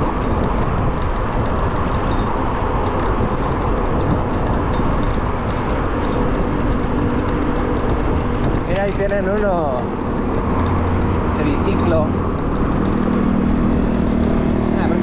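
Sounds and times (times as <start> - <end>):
road noise: 0.0 - 15.0
wind rushing: 0.0 - 15.0.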